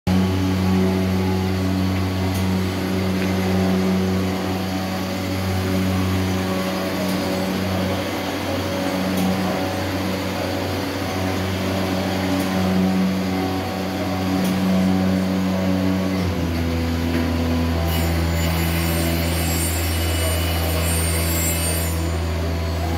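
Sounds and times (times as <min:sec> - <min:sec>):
machining centre humming: 0:00.1 - 0:22.9.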